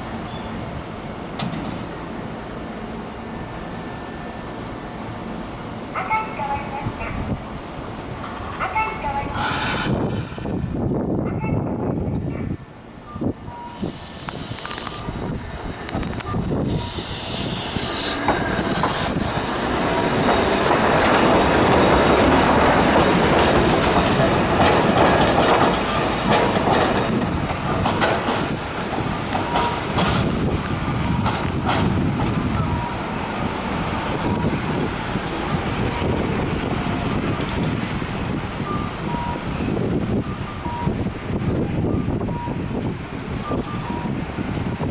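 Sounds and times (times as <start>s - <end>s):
tram wheels rumbling and clacking: 0.0s - 44.9s.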